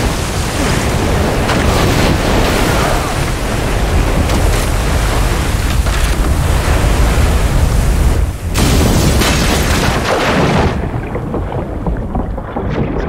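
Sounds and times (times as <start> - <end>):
heavy rain: 0.0 - 13.0
rushing flood water: 0.0 - 13.0
strong wind: 0.0 - 13.0.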